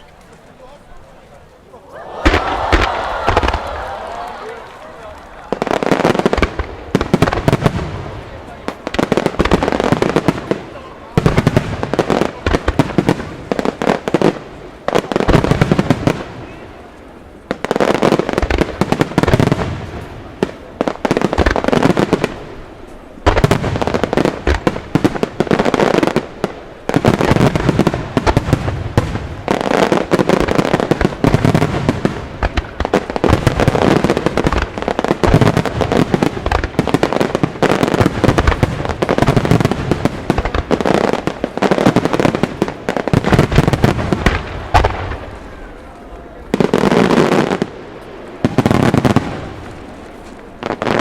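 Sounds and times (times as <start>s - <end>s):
fireworks booming and crackling: 0.0s - 51.0s.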